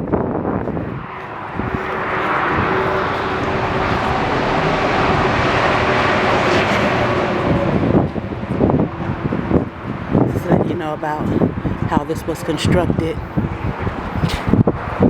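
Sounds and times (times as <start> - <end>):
rushing engine noise: 0.0 - 15.0.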